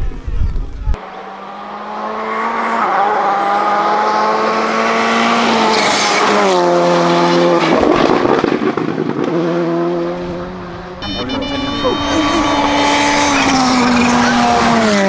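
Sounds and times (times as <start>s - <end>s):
rally car engine revving: 1.0s - 15.0s.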